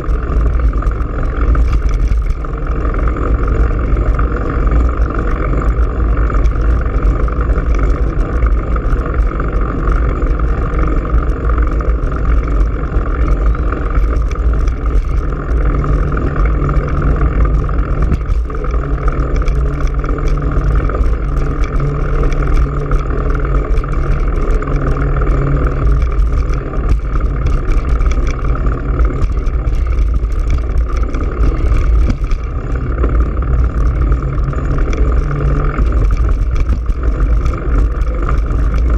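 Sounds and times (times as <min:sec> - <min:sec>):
bicycle road noise: 0:00.0 - 0:38.9
faint steady hum: 0:00.0 - 0:38.9
wind rumble on microphone: 0:00.0 - 0:38.9.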